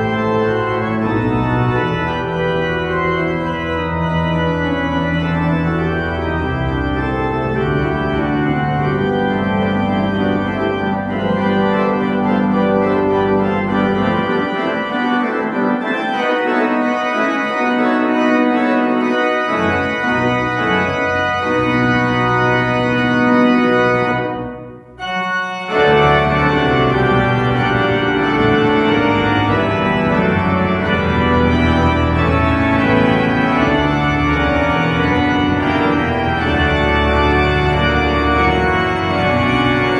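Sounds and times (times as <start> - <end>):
church organ chords: 0.0 - 39.9
deep organ pedal bass: 0.0 - 39.9.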